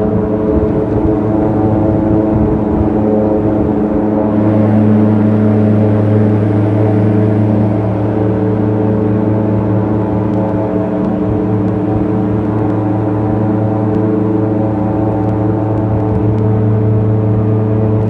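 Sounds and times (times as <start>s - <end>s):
airboat engine and propeller drone: 0.0s - 18.0s.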